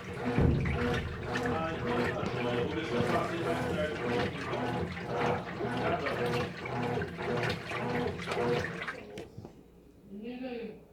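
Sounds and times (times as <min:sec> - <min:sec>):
washing machine motor humming: 0:00.0 - 0:09.4
water churning and sloshing: 0:00.0 - 0:09.5.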